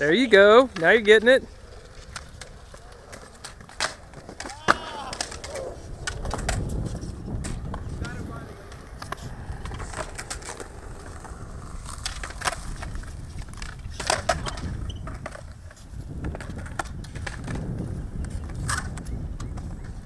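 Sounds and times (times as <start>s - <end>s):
scooter wheels rumbling on concrete: 0.0s - 20.0s
scooter clicks and clatters: 1.7s - 20.0s.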